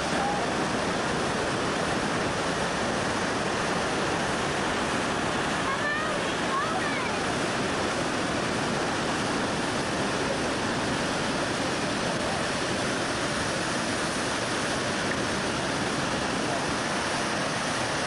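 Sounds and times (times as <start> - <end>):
white water rushing through gorge: 0.0 - 18.0.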